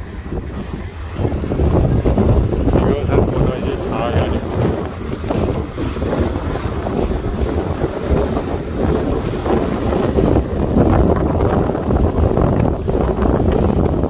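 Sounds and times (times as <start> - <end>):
boat engine low rumble: 0.0 - 14.0
rushing water: 0.0 - 14.0
wind blowing on microphone: 0.0 - 14.0.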